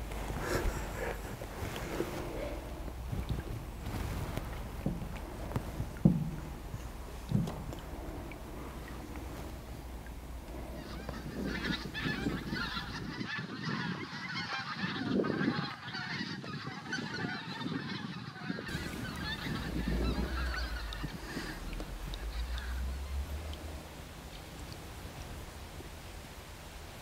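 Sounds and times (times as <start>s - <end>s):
geese honking: 0.0s - 4.6s, 5.2s - 25.5s.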